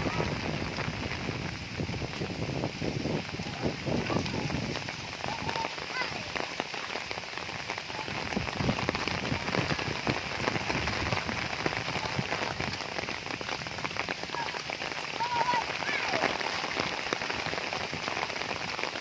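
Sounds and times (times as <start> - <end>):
heavy rain on a roof: 0.0 - 19.0.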